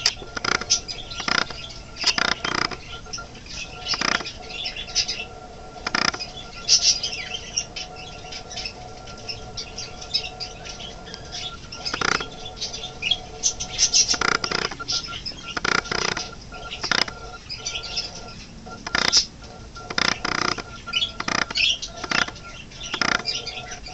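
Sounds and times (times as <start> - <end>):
budgerigars chirping and chattering: 0.0 - 23.9.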